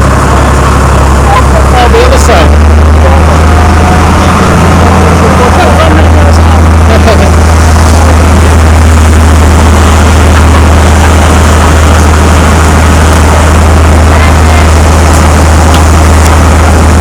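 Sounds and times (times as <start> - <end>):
boat engine droning: 0.0 - 17.0
rushing noise: 0.0 - 17.0.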